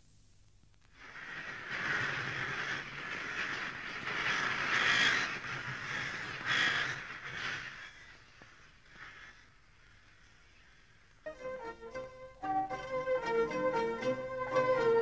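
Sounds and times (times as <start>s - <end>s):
flock of birds calling: 1.0s - 15.0s.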